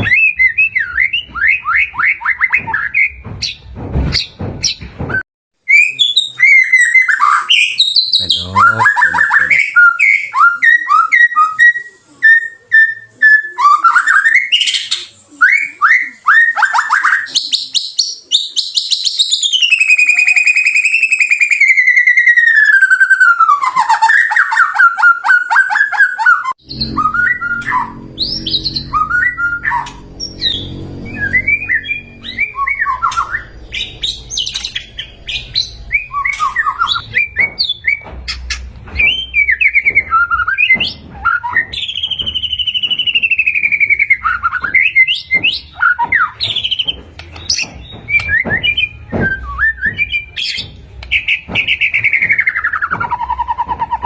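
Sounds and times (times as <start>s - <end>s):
songbird singing: 5.7s - 54.0s.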